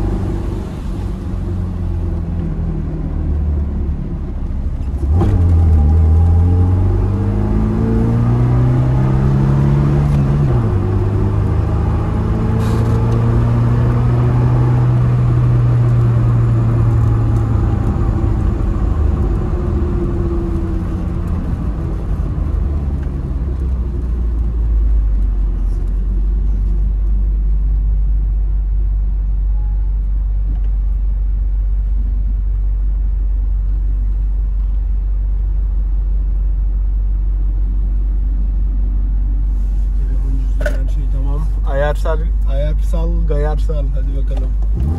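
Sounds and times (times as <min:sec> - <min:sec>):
car engine through loud exhaust: 0:00.0 - 0:44.9.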